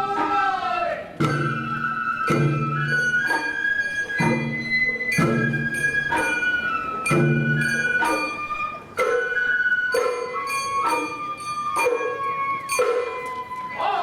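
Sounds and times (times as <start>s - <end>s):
taiko drum strokes: 0.0s - 13.6s
bamboo flute melody: 0.0s - 14.0s.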